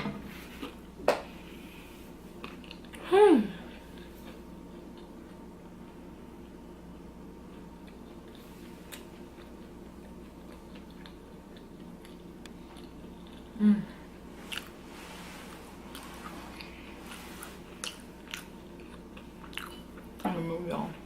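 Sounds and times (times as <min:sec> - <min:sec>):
steady low hum: 0:00.0 - 0:21.0
person chewing food: 0:00.4 - 0:03.0, 0:03.8 - 0:13.6, 0:14.2 - 0:20.2.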